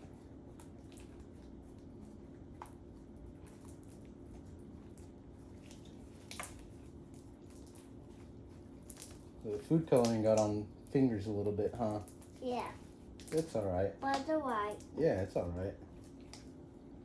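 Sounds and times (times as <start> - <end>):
slime squishing: 0.0 - 17.0.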